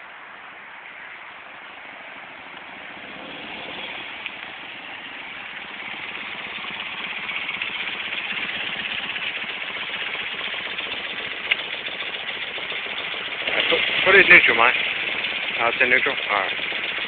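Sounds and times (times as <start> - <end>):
motorcycle engine running: 2.2 - 17.0.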